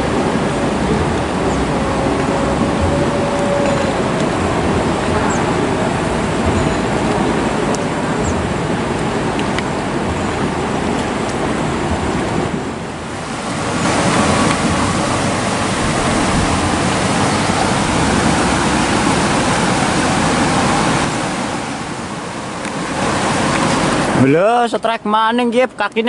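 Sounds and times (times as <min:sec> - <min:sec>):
river water rushing over rocks: 0:00.0 - 0:25.1.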